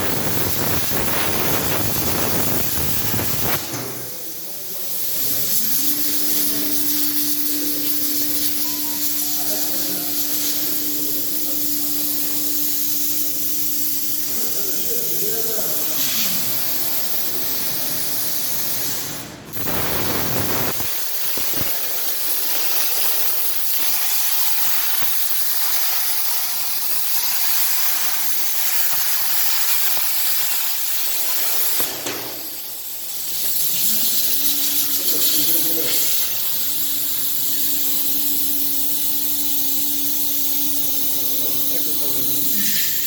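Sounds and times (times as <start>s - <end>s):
steady hum: 0.0s - 25.5s, 26.5s - 43.0s
plasma torch hissing: 0.0s - 43.0s.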